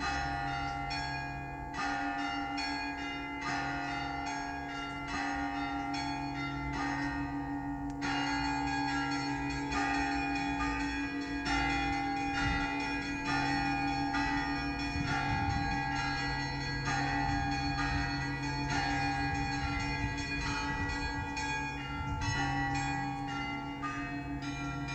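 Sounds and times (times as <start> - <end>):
deep bell hum: 0.0 - 24.9.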